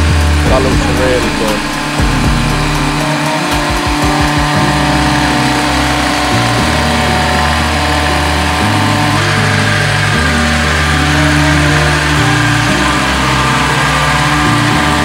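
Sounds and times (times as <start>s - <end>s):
electronic music with deep bass: 0.0s - 15.0s
quick run of beats: 0.0s - 15.0s.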